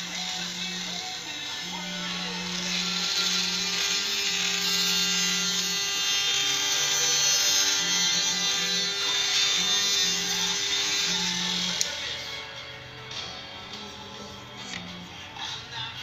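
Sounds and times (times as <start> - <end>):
mini drill whining into wood: 0.0 - 13.2
background music: 0.0 - 16.0.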